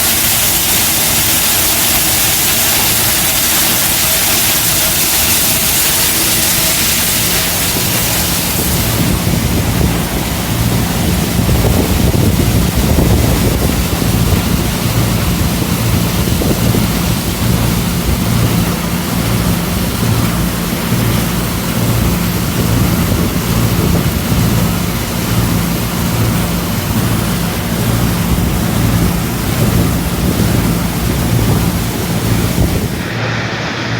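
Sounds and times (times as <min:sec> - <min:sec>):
stone crusher roaring: 0:00.0 - 0:33.9.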